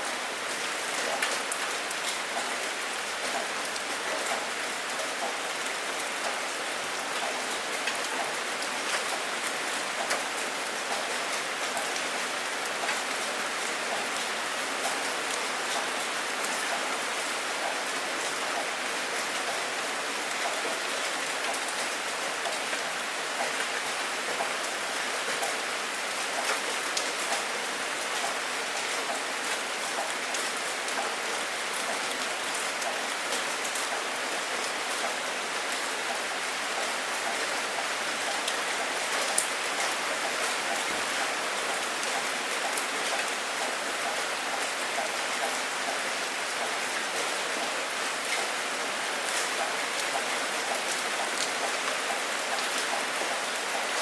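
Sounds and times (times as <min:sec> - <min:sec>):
rain falling: 0:00.0 - 0:54.0
raindrops striking a hard surface: 0:00.4 - 0:54.0.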